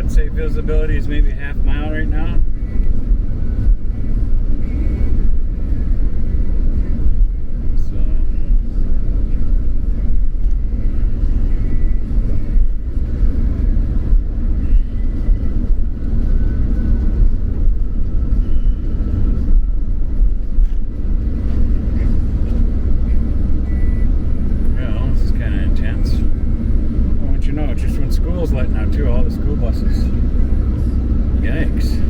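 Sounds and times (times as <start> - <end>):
van engine and tyre rumble: 0.0 - 32.0.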